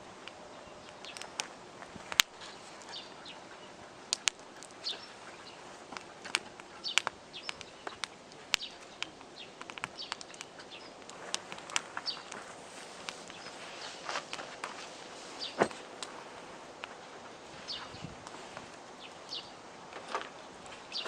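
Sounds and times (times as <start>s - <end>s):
birds chirping: 0.0s - 21.0s
campfire crackling and popping: 0.0s - 21.0s.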